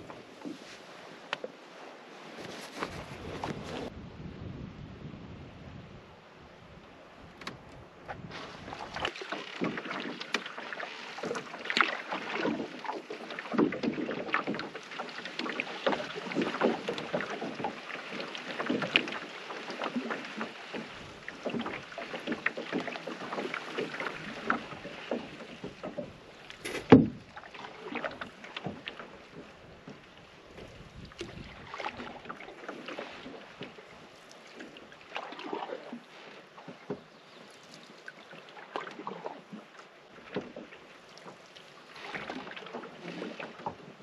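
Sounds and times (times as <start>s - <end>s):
paddle splashing in water: 0.0s - 4.0s, 7.2s - 44.0s.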